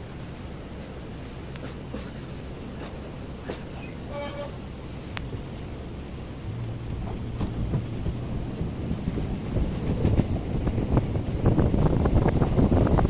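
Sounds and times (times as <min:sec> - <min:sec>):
train rumbling on rails: 0:00.0 - 0:13.0
wheels clicking on track: 0:00.0 - 0:13.0.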